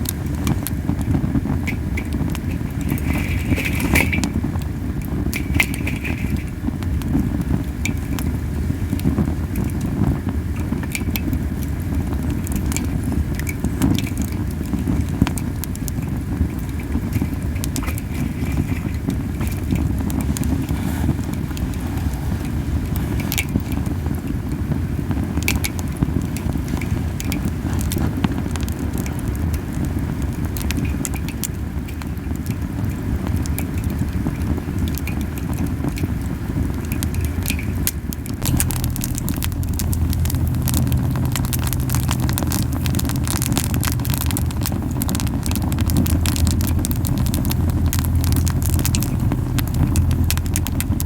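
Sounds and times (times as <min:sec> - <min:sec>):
campfire flames puffing: 0:00.0 - 0:51.0
wood crackling and popping: 0:00.0 - 0:51.0.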